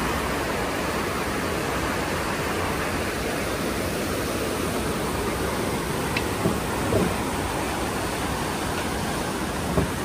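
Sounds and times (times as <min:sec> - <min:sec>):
whitewater rushing: 0:00.0 - 0:10.0.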